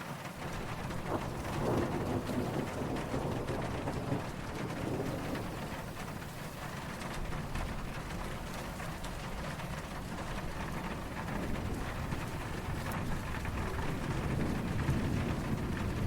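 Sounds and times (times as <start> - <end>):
steady rain falling: 0.0 - 16.0
distant thunder rumble: 0.2 - 16.0.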